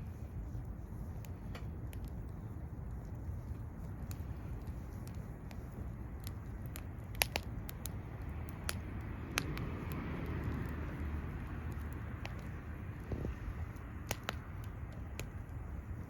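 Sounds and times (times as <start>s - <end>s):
low rumble of burning fire: 0.0s - 16.0s
wood fire crackling and popping: 0.0s - 16.0s.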